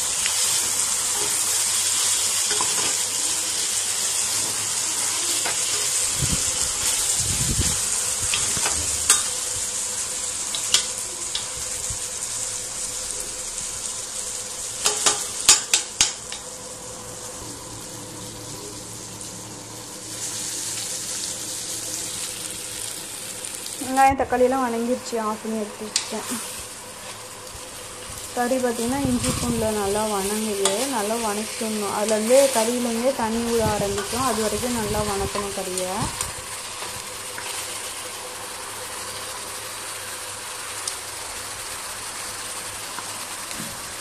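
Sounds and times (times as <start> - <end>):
chicken sizzling in a pot: 0.0 - 44.0.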